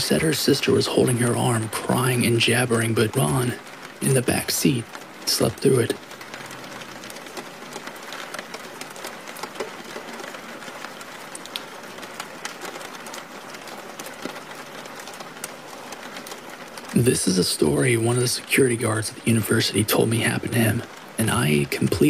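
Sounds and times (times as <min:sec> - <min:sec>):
raindrops ticking: 0:00.0 - 0:22.0
steady rain hiss: 0:00.0 - 0:22.0.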